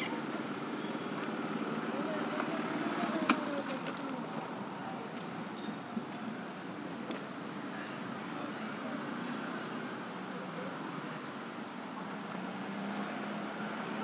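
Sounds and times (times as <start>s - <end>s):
scooters and cars passing: 0.0s - 14.0s.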